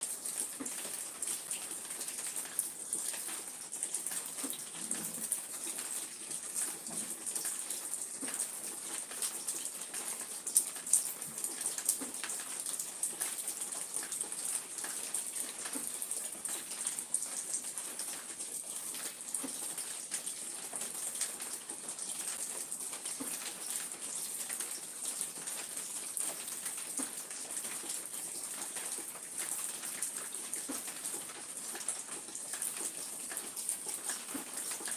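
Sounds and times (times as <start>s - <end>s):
raindrops ticking on surfaces: 0.0s - 34.9s
steady rain hissing: 0.0s - 34.9s.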